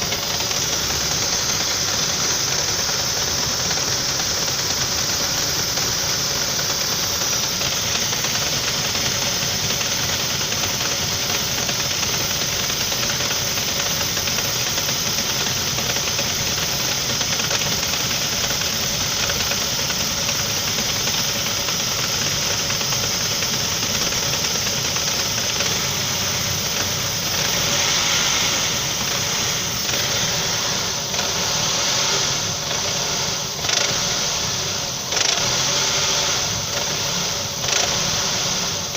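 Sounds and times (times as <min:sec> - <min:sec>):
car engine knocking: 0:00.0 - 0:38.9.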